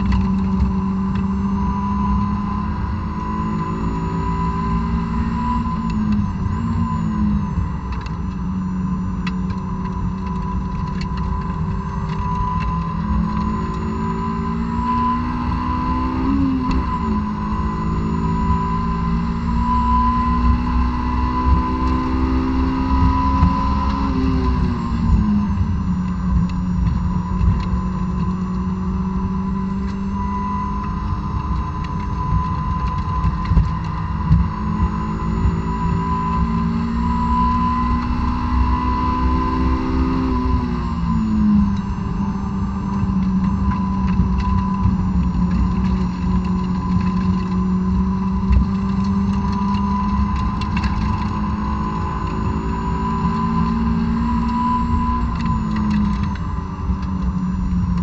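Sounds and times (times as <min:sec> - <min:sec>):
car engine revving: 0:00.0 - 0:58.0
road and wind noise: 0:00.0 - 0:58.0
steady high whine: 0:00.0 - 0:58.0.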